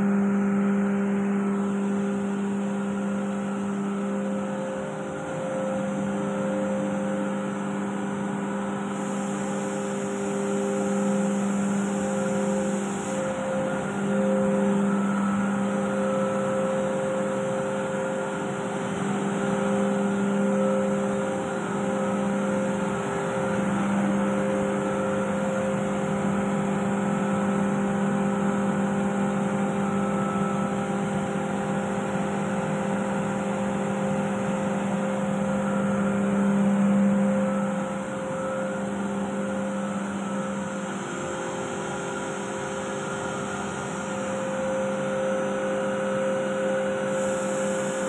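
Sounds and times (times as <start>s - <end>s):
air compressor humming: 0.0s - 48.0s.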